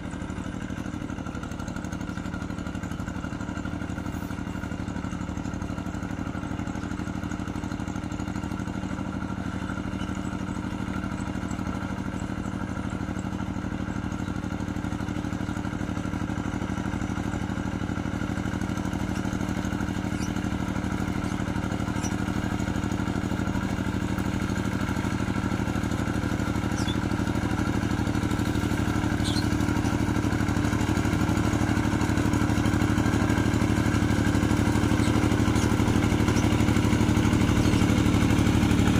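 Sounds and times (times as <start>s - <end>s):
small tractor engine running: 0.0s - 38.9s.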